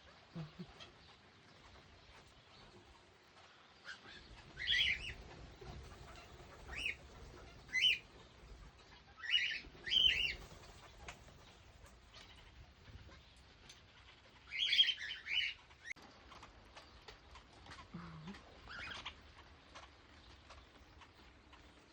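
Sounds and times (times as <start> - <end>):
parrots chirping: 0.0 - 21.9.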